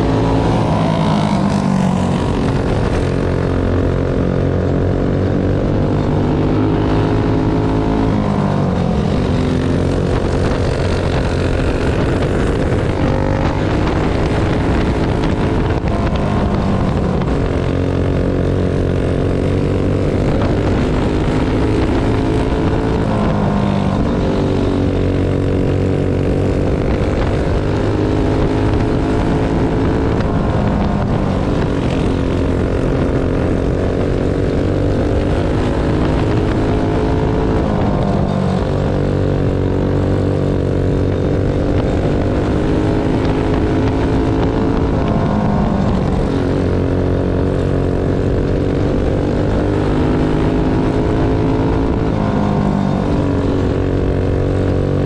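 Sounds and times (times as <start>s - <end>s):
kart engine at racing speed: 0.0s - 55.0s.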